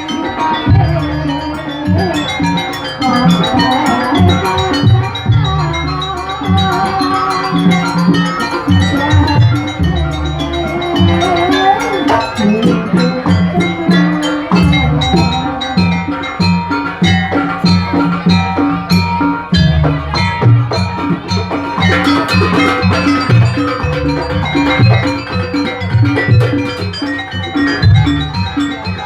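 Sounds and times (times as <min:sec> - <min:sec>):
percussion ensemble of drums and gongs: 0:00.0 - 0:29.0.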